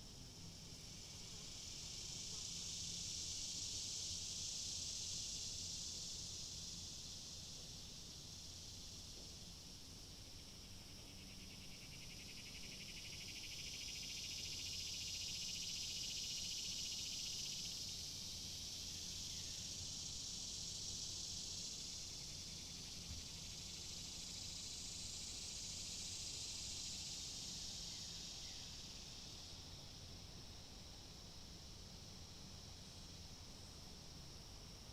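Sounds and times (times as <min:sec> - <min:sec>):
cicadas buzzing: 0:00.0 - 0:34.9.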